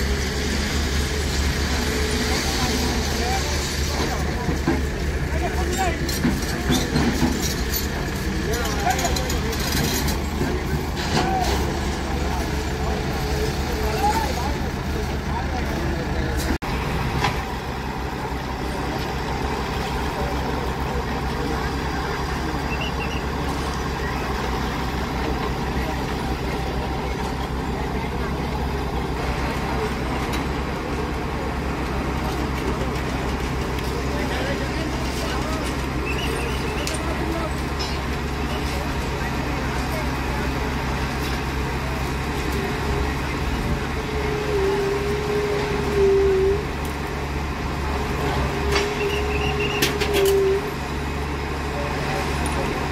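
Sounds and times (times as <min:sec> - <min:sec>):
crawler engine droning: 0:00.0 - 0:52.9
heavy diesel machinery running: 0:00.0 - 0:52.9
machinery whine: 0:00.0 - 0:52.9.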